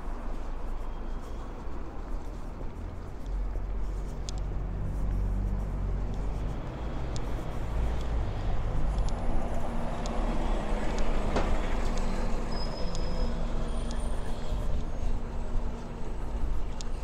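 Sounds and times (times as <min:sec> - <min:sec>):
bus passing by: 0:00.0 - 0:17.0
street traffic: 0:00.0 - 0:17.0.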